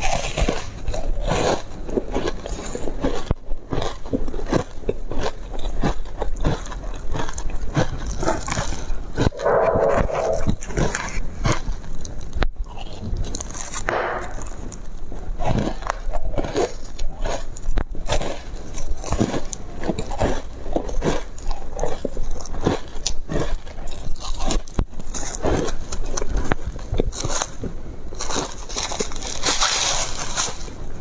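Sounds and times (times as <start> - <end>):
foam ice being chewed: 0.0 - 31.0.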